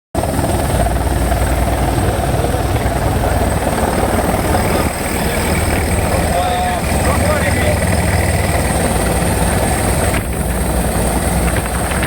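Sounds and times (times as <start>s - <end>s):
helicopter rotor and engine drone: 0.2s - 12.0s.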